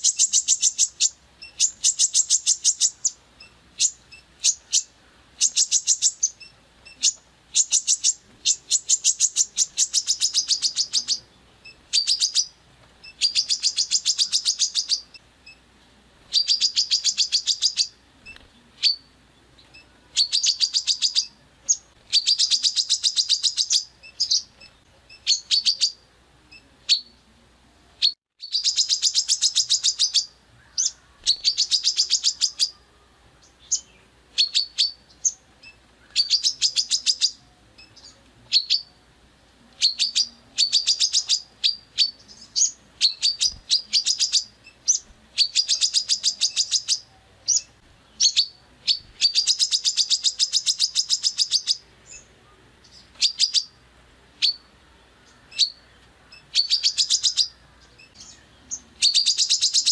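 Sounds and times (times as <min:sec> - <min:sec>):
songbird rapid trilled calls: 0:00.0 - 0:15.6, 0:16.3 - 0:18.0, 0:20.2 - 0:26.0, 0:28.4 - 0:32.7, 0:34.4 - 0:38.9, 0:39.8 - 0:52.2, 0:53.2 - 0:53.8, 0:56.4 - 0:59.9.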